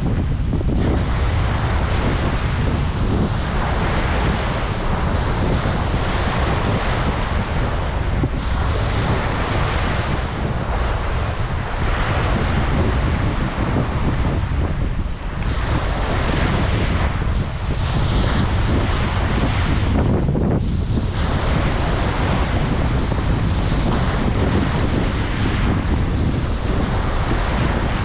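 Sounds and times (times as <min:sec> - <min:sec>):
waves breaking on a beach: 0:00.0 - 0:28.0
wind buffeting microphone: 0:00.0 - 0:28.0.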